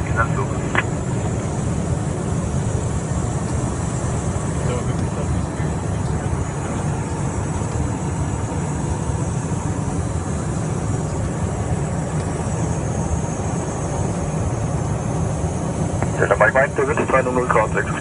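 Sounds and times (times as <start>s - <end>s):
jet cabin engine rumble: 0.0s - 18.0s.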